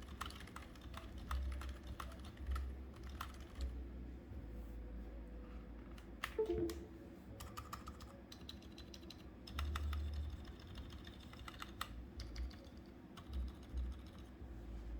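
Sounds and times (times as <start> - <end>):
soft keyboard keystrokes: 0.0 - 3.8, 5.8 - 14.4.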